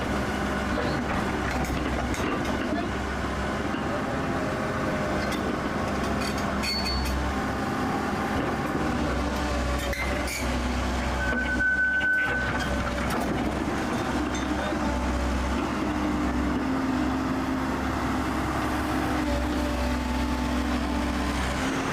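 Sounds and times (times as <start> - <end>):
heavy engine humming: 0.0 - 21.9.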